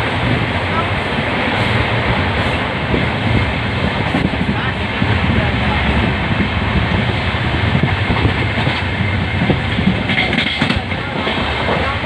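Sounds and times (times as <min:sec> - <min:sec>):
rail clacks: 0:00.0 - 0:12.0
train wheels rumbling on rails: 0:00.0 - 0:12.0.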